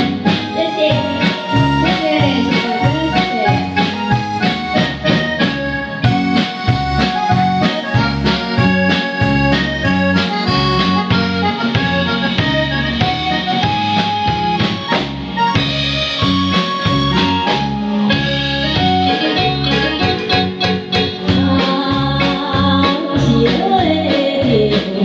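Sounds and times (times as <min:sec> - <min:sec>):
bass guitar: 0:00.0 - 0:25.0
drum kit beat with cymbal ticks: 0:00.0 - 0:25.0
keyboard melody: 0:00.0 - 0:25.0.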